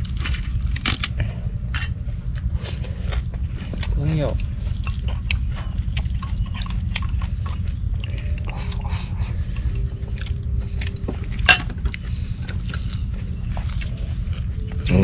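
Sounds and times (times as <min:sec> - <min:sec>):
low rumble: 0:00.0 - 0:15.0
people chewing food: 0:00.0 - 0:15.0.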